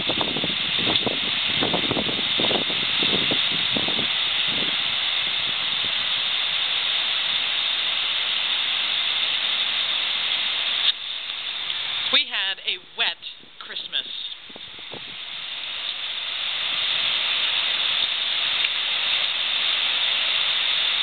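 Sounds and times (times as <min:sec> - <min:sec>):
heavy rain hissing: 0:00.0 - 0:21.0.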